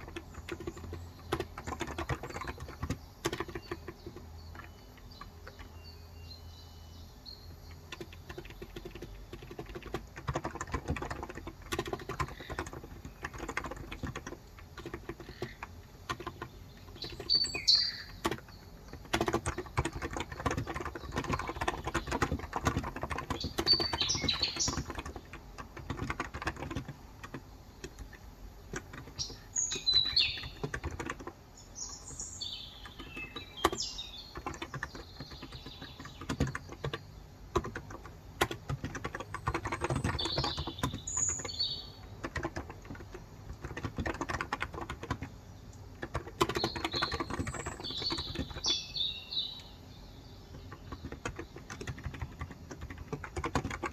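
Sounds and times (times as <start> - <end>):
fast keyboard typing: 0.0 - 5.9, 7.6 - 53.9
birds chirping: 0.0 - 53.9.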